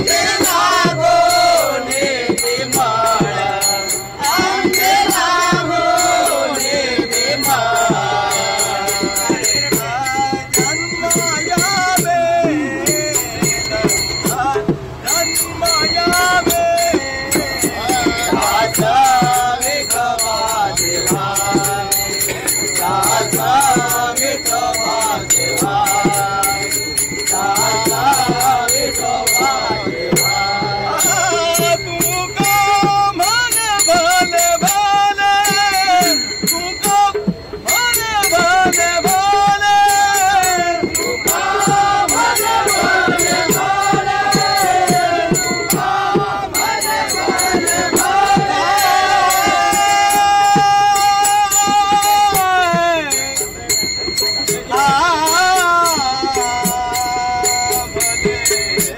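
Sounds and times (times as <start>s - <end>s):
hand cymbals clashing: 0.0s - 58.9s
men singing together: 0.0s - 58.9s.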